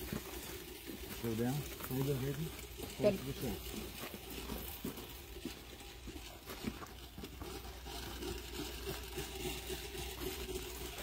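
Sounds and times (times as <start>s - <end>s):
rope rustling and crackling: 0.0s - 11.0s.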